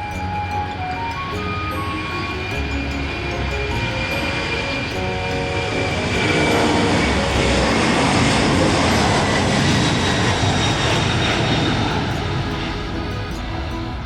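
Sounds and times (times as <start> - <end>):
airplane passing by: 0.0 - 14.0.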